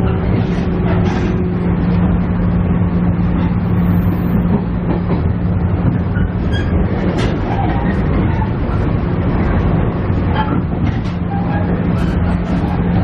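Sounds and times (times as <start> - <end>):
diesel engine hum: 0.0 - 13.0
wheel-on-rail rumble: 0.0 - 13.0.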